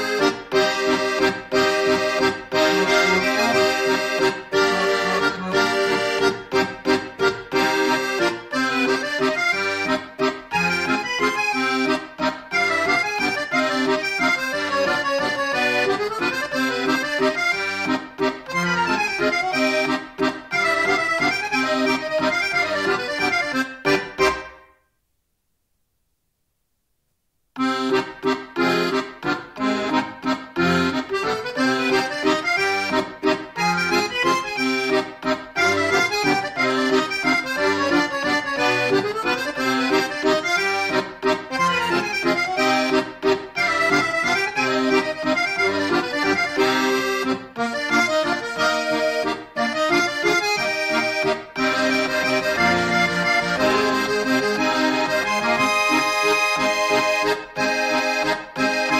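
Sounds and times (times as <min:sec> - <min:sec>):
accordion music: 0:00.0 - 0:24.8, 0:27.6 - 0:58.9.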